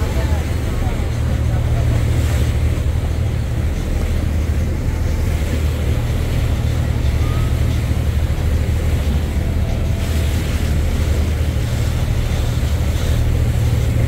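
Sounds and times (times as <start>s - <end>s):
boat engine rumble: 0.0s - 14.0s
wind and water hiss: 0.0s - 14.0s.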